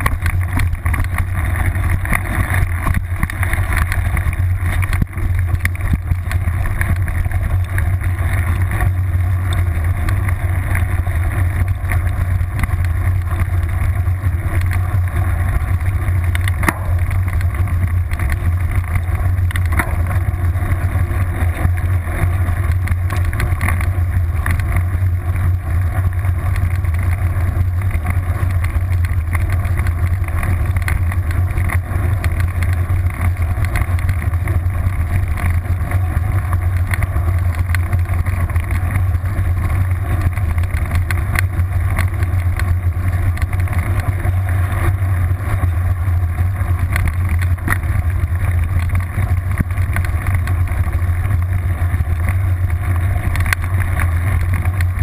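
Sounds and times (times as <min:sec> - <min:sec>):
bike rattles and knocks: 0:00.0 - 0:55.0
wind and tyre rumble: 0:00.0 - 0:55.0.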